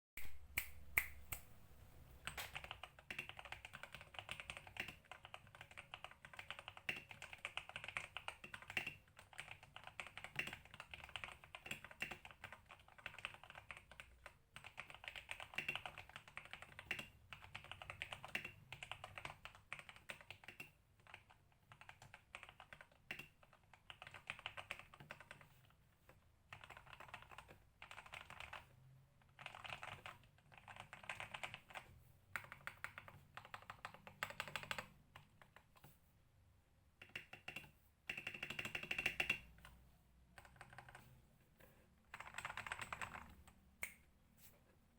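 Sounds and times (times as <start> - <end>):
keyboard typing: 2.2 - 35.9, 37.0 - 43.9.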